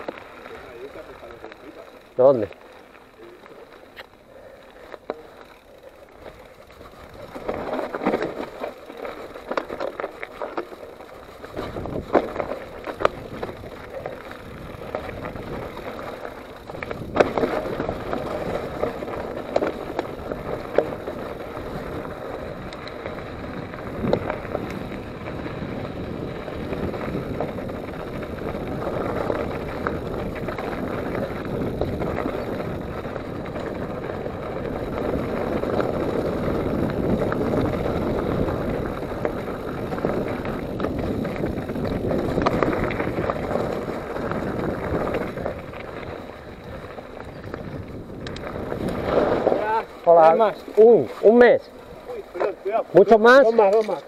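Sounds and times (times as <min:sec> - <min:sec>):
bike rattling over rocks: 0:00.0 - 0:54.0
bike tyres on dirt trail: 0:00.0 - 0:54.0.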